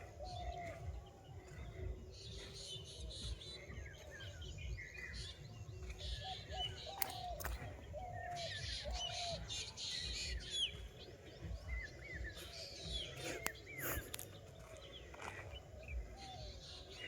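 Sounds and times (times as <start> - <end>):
birds chirping: 0.0 - 17.0
low repeated bird call: 0.0 - 17.0.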